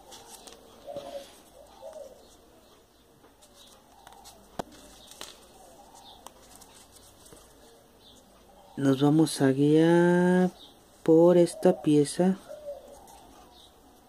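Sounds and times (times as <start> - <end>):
bird cooing: 0.0 - 9.0, 11.4 - 14.0.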